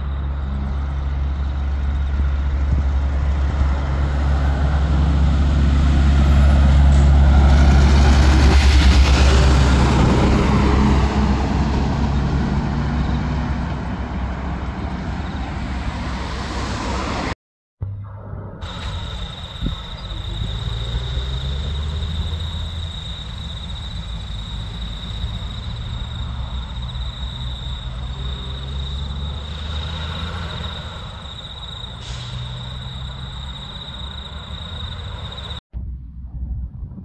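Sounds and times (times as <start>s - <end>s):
diesel truck engine rumbling: 0.0s - 35.6s.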